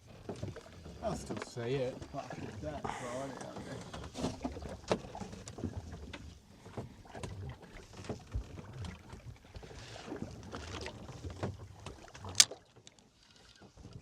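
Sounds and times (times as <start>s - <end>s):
water slapping boat hull: 0.0s - 14.0s.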